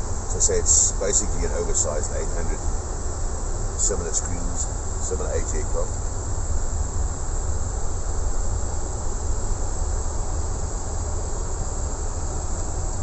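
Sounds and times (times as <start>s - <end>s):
cockpit ventilation rumble and hiss: 0.0s - 13.0s.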